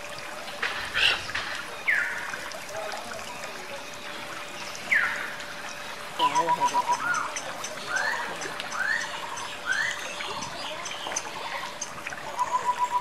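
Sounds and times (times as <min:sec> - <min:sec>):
fountain water trickling: 0:00.0 - 0:13.0.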